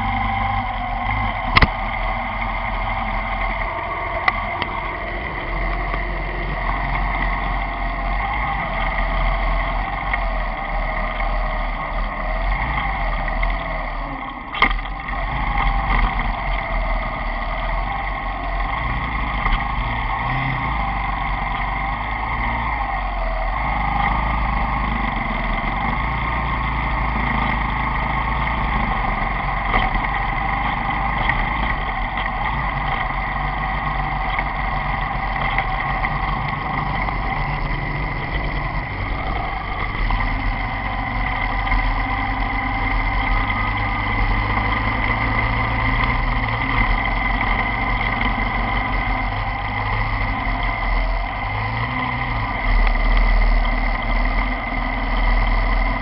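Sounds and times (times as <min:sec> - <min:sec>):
motorcycle engine running: 0:00.0 - 0:56.0
road and wind rumble: 0:00.0 - 0:56.0.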